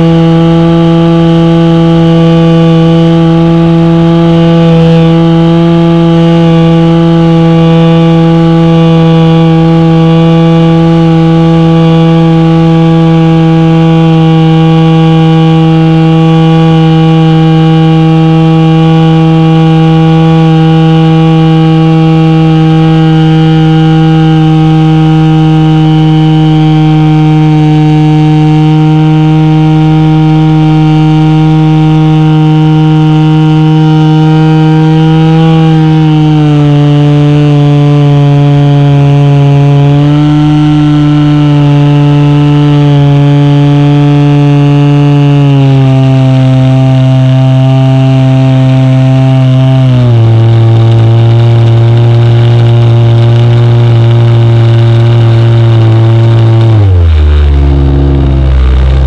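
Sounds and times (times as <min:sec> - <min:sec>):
model plane engine running: 0:00.0 - 0:59.0.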